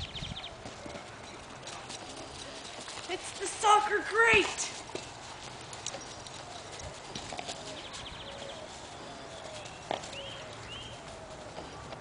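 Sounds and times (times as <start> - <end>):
faint outdoor background: 0.0 - 12.0
paws tapping on grass: 0.0 - 12.0.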